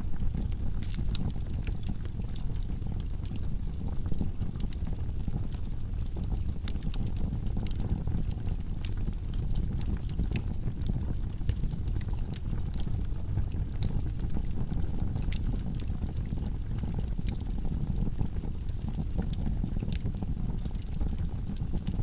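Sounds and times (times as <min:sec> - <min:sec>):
fire rumbling in fireplace: 0:00.0 - 0:22.0
wood crackling and popping: 0:00.0 - 0:22.0.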